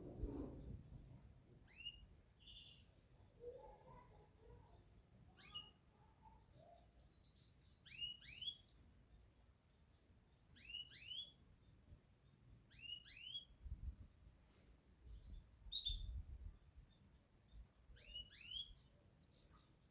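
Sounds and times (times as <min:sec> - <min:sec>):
canary singing faintly: 0:00.0 - 0:19.9.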